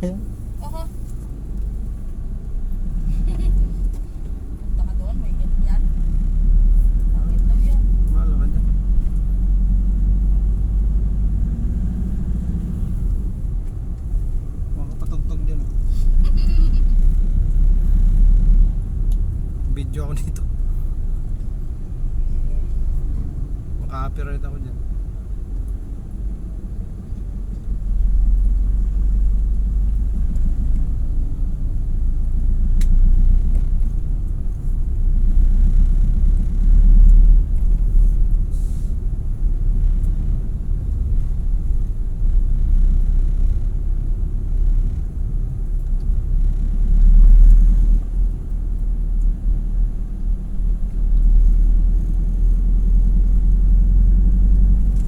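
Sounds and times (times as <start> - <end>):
road vehicle rumble: 0.0 - 55.0.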